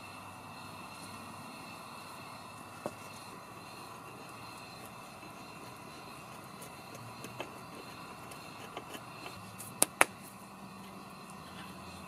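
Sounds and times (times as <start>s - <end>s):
campfire crackling: 0.8s - 11.4s.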